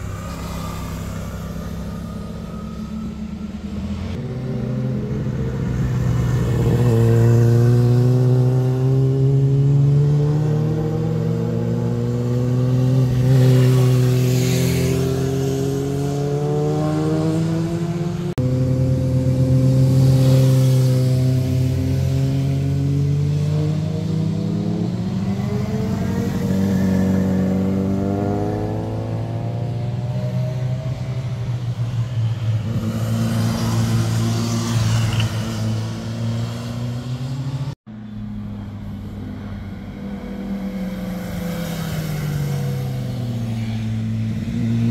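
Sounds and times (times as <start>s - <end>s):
sport motorcycles riding past: 0.0s - 37.8s, 38.8s - 44.9s.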